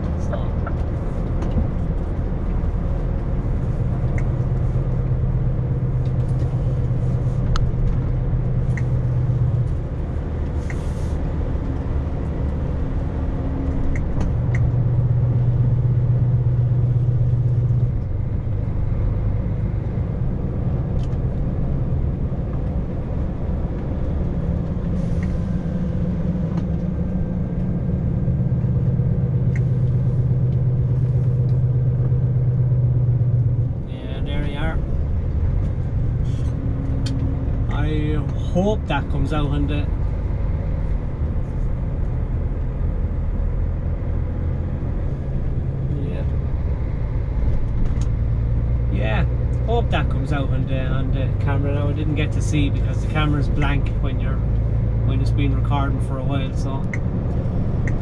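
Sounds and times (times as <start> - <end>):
lorry diesel engine drone: 0.0 - 58.0
road noise: 0.0 - 58.0.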